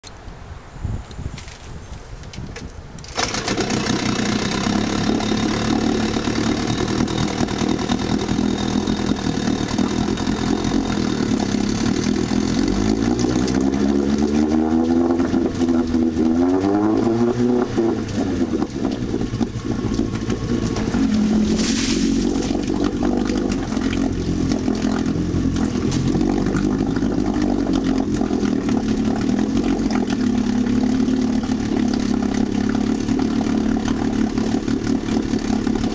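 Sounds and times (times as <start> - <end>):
propeller splashing water: 3.0 - 35.9
outboard engine running: 3.1 - 35.9.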